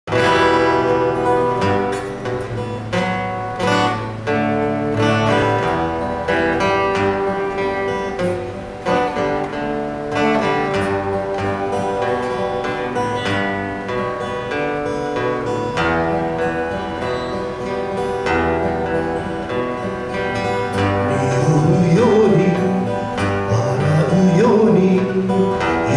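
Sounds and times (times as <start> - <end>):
acoustic guitars playing: 0.0 - 25.9.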